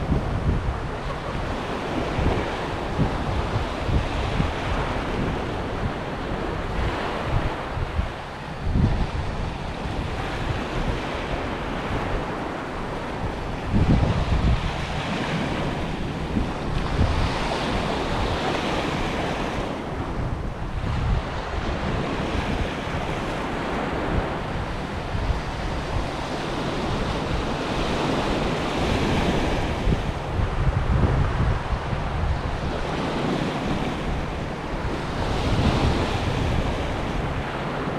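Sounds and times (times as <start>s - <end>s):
sea surf washing onto shore: 0.0s - 37.9s
wind buffeting microphone: 0.0s - 37.9s.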